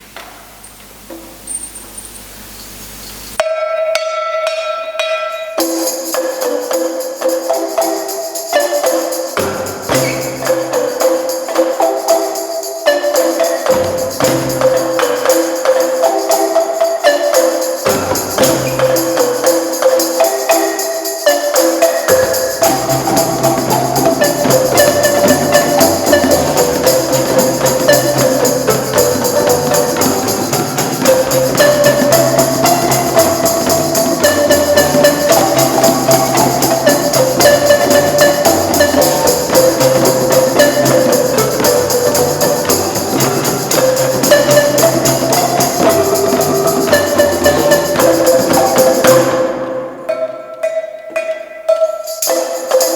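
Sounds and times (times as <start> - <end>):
jingling tambourine-like percussion: 1.4 - 2.4, 3.4 - 52.9
marimba ensemble playing: 5.6 - 52.9
low bass marimba notes: 9.4 - 52.9.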